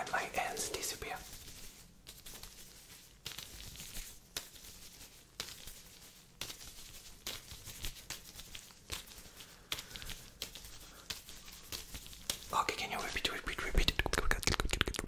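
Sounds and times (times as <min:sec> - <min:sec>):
rubber gloves crinkling: 0:00.0 - 0:15.0.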